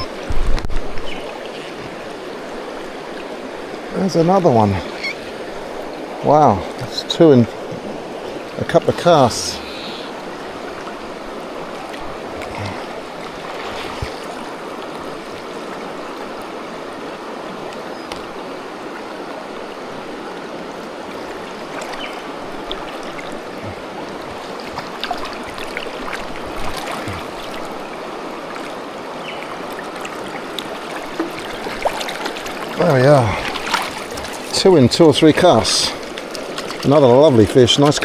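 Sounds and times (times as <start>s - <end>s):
river current flowing: 0.0s - 38.0s.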